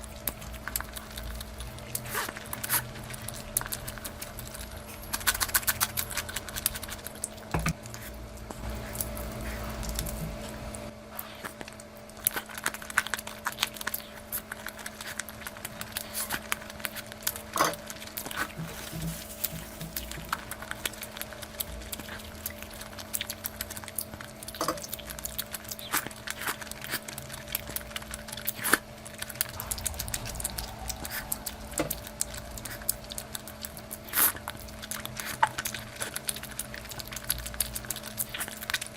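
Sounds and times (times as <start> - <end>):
person chewing food: 0.0 - 38.9
steady low hum: 0.0 - 38.9.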